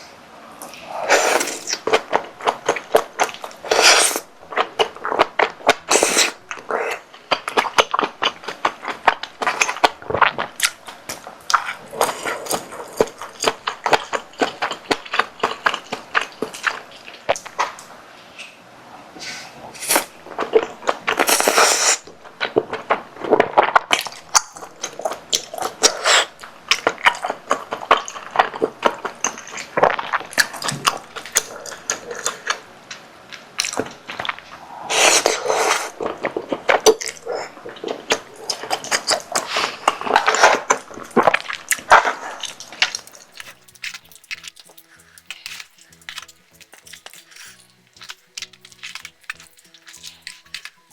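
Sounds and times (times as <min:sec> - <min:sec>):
chewing and mouth clicks: 0:00.6 - 0:18.6, 0:19.9 - 0:34.6, 0:35.2 - 0:50.9.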